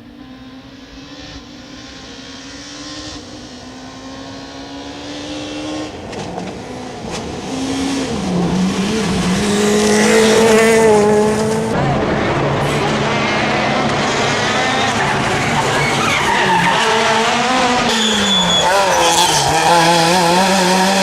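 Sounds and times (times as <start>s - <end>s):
rally car engine approaching: 0.0s - 21.0s.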